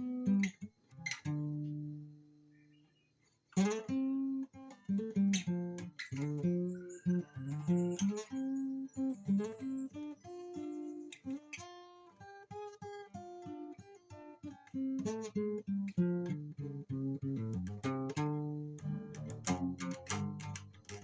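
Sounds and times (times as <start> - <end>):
guitar blues riff: 0.0 - 2.2, 3.6 - 21.0.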